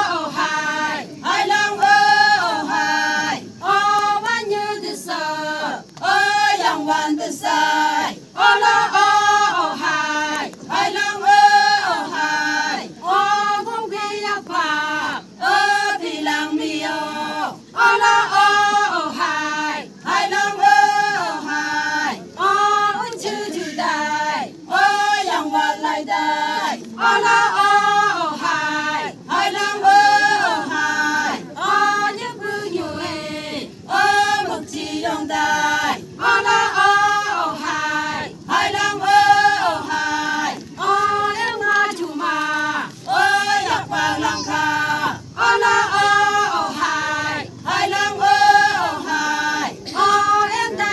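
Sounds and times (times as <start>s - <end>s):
women singing in unison: 0.0s - 50.9s.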